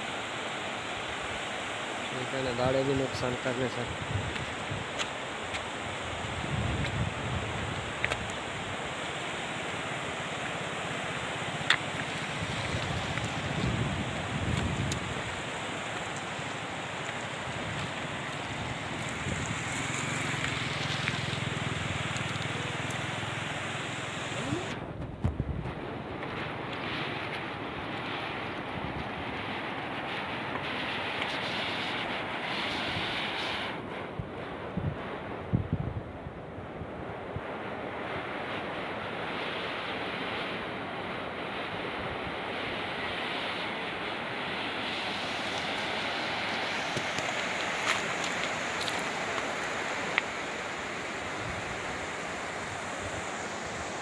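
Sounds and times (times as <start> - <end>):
flooded river rushing: 0.0 - 35.4, 36.6 - 54.0
wind on microphone: 3.7 - 54.0.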